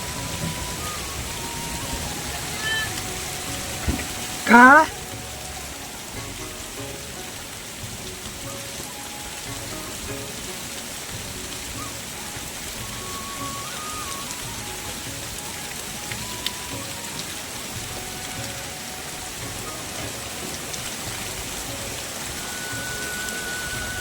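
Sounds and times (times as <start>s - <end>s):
faint background music: 0.0s - 24.0s
heavy rain: 0.0s - 24.0s.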